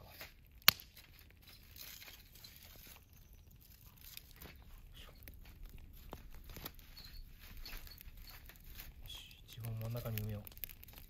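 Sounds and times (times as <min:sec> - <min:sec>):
campfire coals crunching and crackling: 0:00.0 - 0:11.0.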